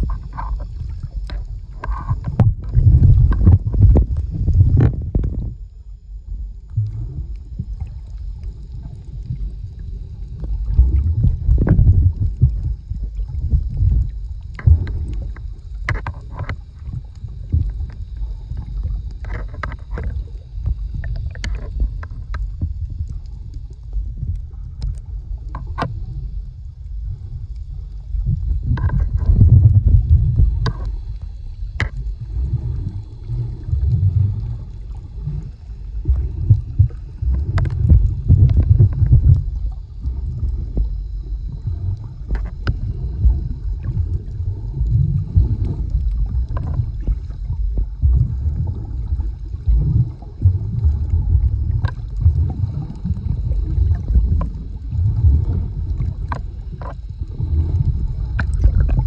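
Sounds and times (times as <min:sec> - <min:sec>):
underwater rumble and sloshing: 0:00.0 - 0:59.0.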